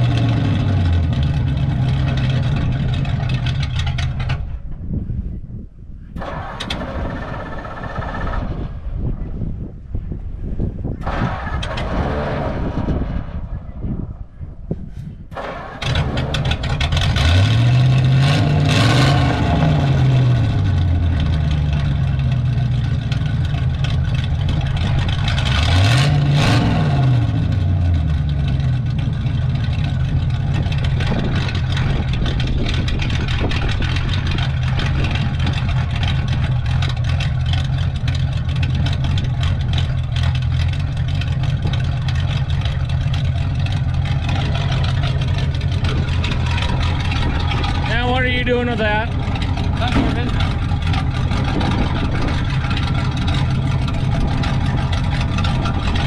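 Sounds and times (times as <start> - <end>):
engine revving: 0.0 - 4.4, 11.0 - 14.1, 15.3 - 56.0
large engine starting: 0.0 - 4.7, 6.2 - 9.3, 10.9 - 14.1, 15.3 - 56.0.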